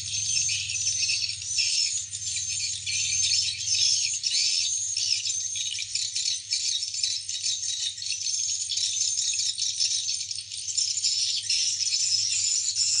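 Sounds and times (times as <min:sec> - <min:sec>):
swiftlets chirping and twittering: 0:00.0 - 0:13.0.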